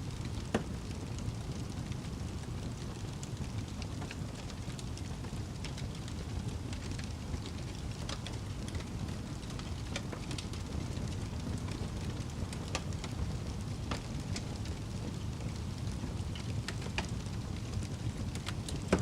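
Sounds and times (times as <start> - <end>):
flames rushing: 0.0 - 19.0
logs crackling and popping: 0.0 - 19.0.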